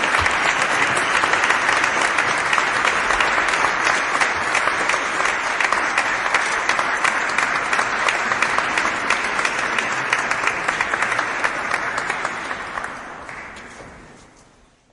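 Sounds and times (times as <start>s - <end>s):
crowd applause in echoey hall: 0.0s - 14.8s.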